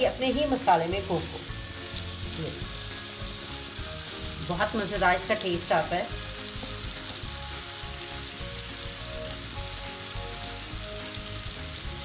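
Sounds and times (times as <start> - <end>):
chicken sizzling in a grill pan: 0.0 - 12.0.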